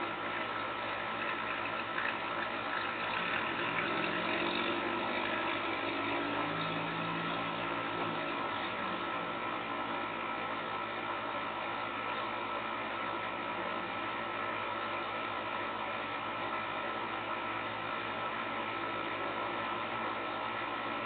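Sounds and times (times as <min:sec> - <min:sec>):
air conditioner whirring: 0:00.0 - 0:21.0.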